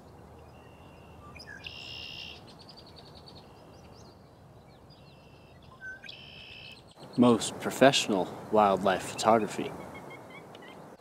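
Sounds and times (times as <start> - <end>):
small birds singing faintly: 0.0 - 11.0.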